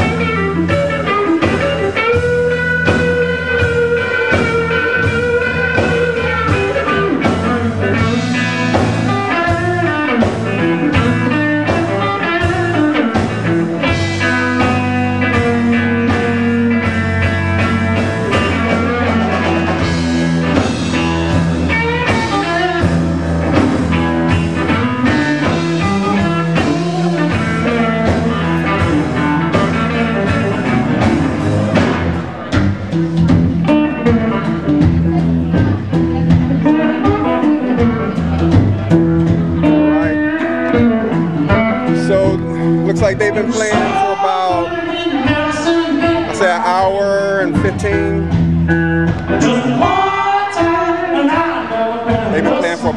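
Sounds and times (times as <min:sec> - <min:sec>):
steady drum beat: 0:00.0 - 0:50.9, 0:52.1 - 0:52.9
guitar lines: 0:00.0 - 0:52.9
sustained bass notes: 0:00.0 - 0:52.9.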